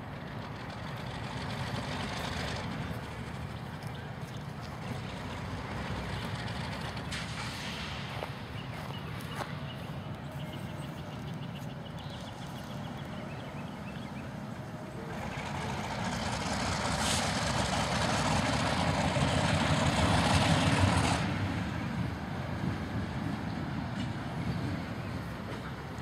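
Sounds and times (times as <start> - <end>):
diesel locomotives rumbling: 0.0 - 26.0.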